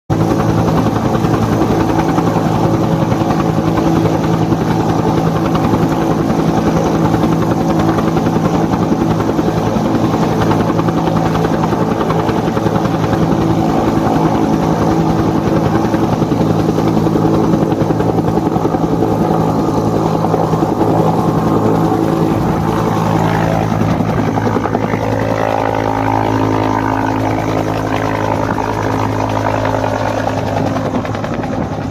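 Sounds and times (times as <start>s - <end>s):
helicopter rotor chopping: 0.1s - 31.9s
turbine engine hum: 0.1s - 31.9s.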